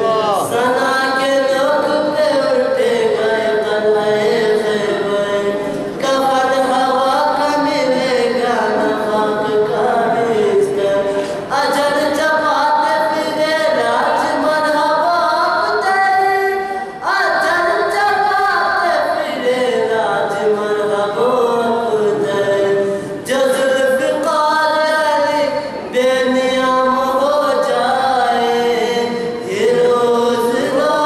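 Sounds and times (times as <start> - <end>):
boy singing into a microphone: 0.0 - 31.0.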